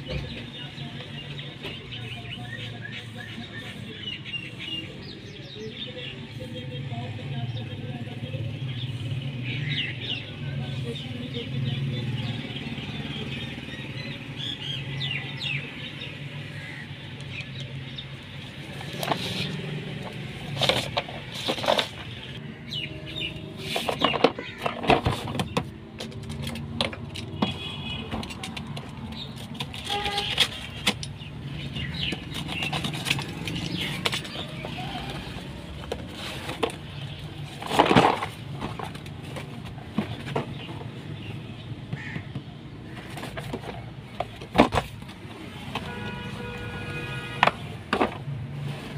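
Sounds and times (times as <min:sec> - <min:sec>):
traffic hum: 0:00.0 - 0:48.9.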